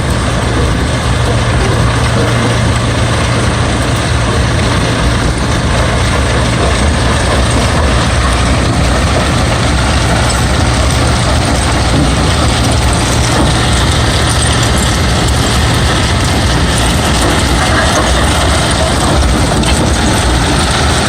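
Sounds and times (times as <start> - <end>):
diesel engine drone: 0.0 - 21.0
machinery rumble: 0.0 - 21.0.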